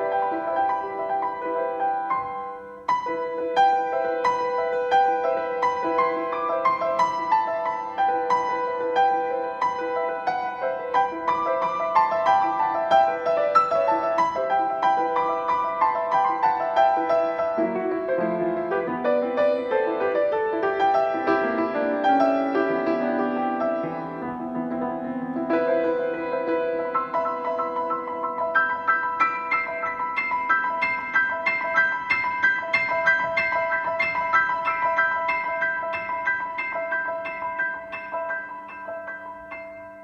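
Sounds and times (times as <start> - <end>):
slow solo piano piece: 0.0 - 40.0.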